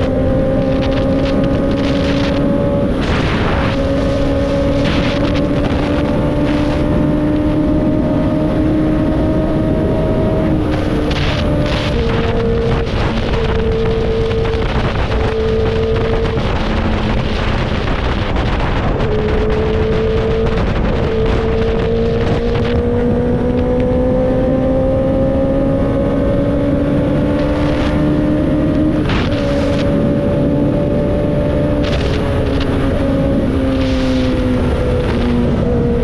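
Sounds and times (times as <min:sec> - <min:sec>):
motorcycle engine running: 0:00.0 - 0:36.0
wind rumble on microphone: 0:00.0 - 0:36.0.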